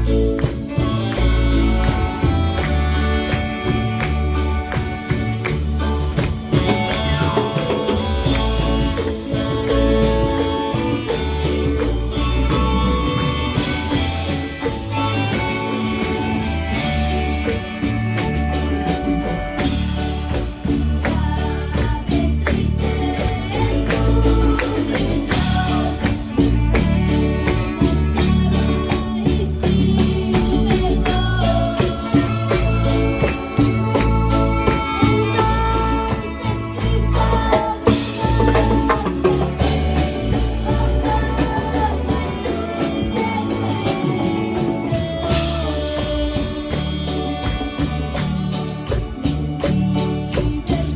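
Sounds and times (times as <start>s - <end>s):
band music: 0.0s - 50.9s
guitar: 0.0s - 50.9s
held bass notes: 0.0s - 50.9s
percussion hits: 0.0s - 50.9s
person singing: 0.0s - 50.9s.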